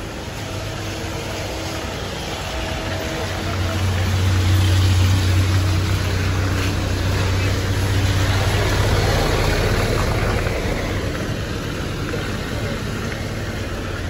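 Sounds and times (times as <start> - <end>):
street noise hiss: 0.0 - 14.0
vehicle engine running: 0.0 - 14.0.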